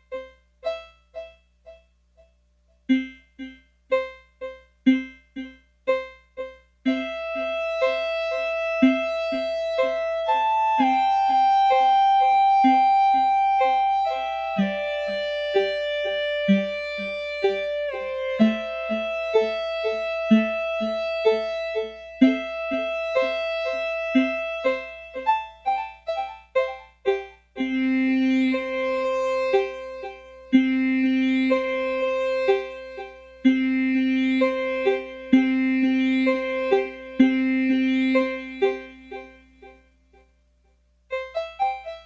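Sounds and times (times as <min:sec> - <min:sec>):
synthesizer piano-like notes: 0:00.0 - 0:02.3, 0:02.9 - 0:40.2, 0:41.1 - 0:42.0.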